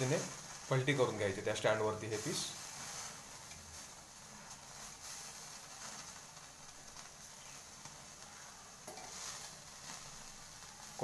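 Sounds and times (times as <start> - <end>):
chicken sizzling on grill: 0.0 - 11.0.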